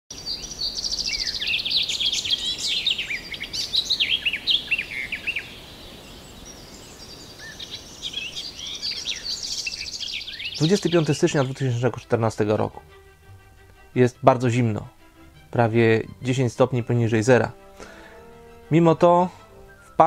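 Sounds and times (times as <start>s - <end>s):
songbirds chirping and trilling: 0.1s - 20.0s.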